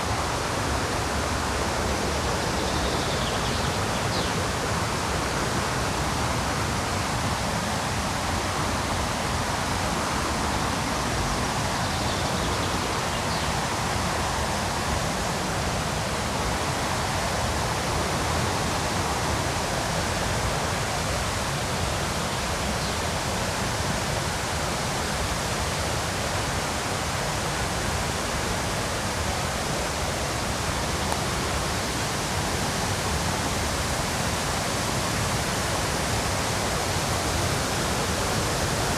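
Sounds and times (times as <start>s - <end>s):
river rapids roaring: 0.0s - 38.9s.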